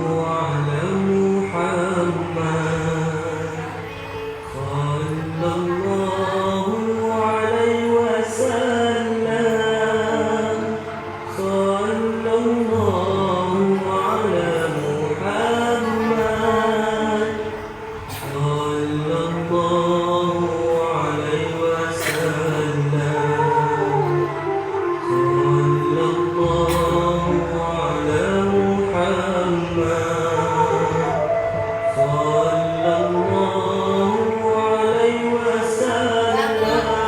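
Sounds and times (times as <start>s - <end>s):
voice chanting long notes: 0.0s - 37.0s.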